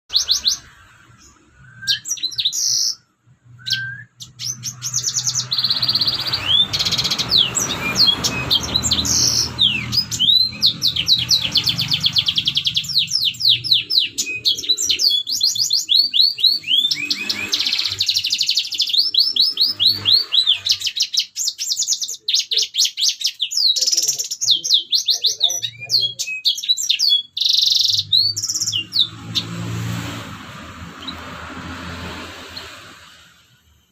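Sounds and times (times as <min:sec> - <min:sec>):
bird twittering song: 0:00.1 - 0:31.4.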